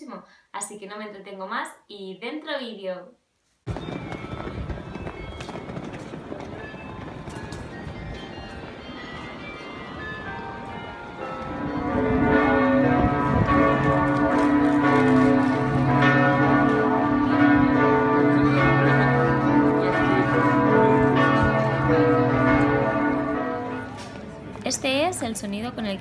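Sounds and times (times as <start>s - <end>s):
church bells pealing: 3.7s - 26.0s.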